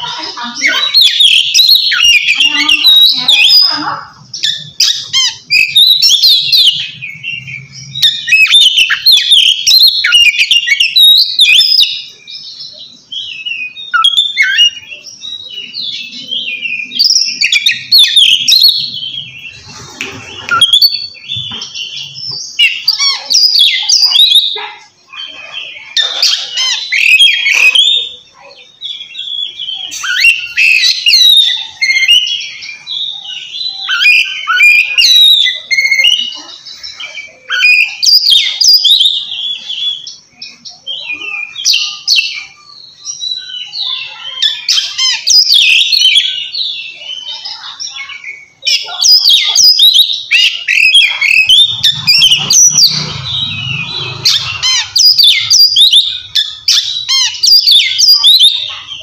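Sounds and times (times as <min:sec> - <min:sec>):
bird singing whistles and chatter: 0:00.0 - 0:59.0.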